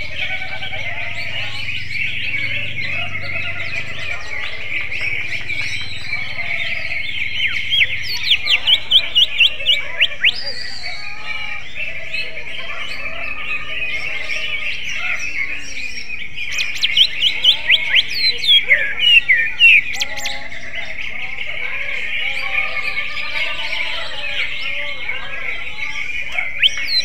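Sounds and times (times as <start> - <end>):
bird singing chirps and whistles: 0.0 - 13.1, 13.8 - 21.1, 25.7 - 27.0
high twittering: 0.0 - 27.0.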